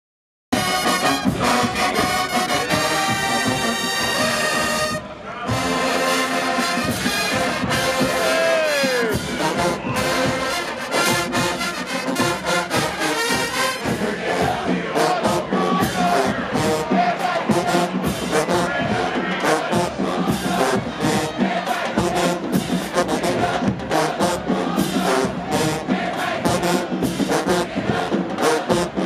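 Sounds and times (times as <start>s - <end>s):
marching brass band playing: 0.5s - 29.0s.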